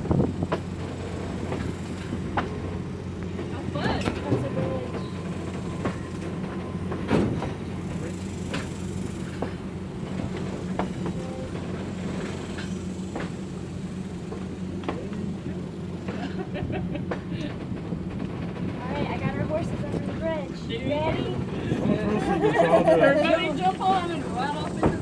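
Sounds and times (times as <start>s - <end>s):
diesel locomotive hum: 0.0s - 25.0s
train clanks and knocks: 0.0s - 25.0s.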